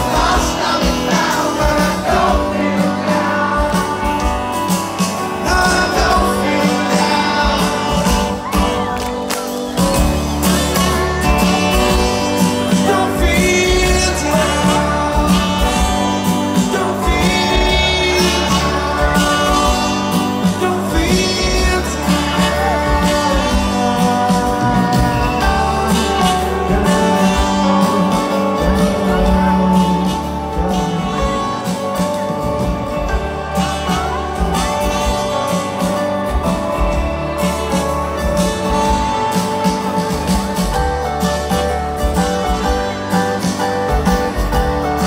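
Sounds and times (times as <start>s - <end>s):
acoustic guitar: 0.0s - 45.0s
live rock band playing: 0.0s - 45.0s
person singing: 0.0s - 45.0s.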